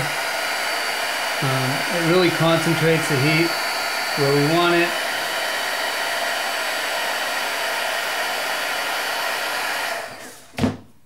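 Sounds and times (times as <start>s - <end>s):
fan winding down: 0.0s - 10.4s
heat gun hissing hot air: 0.0s - 10.5s.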